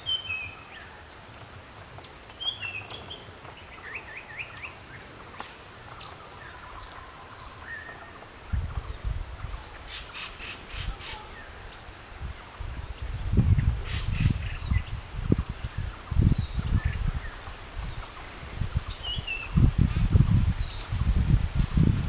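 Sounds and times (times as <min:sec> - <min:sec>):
birds chattering: 0:00.0 - 0:19.6
birds chirping: 0:00.0 - 0:21.0.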